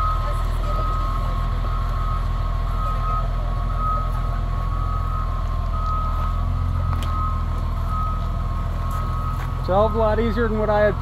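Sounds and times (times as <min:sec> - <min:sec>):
backup alarm beeping: 0:00.0 - 0:11.0
diesel engine running: 0:00.0 - 0:11.0.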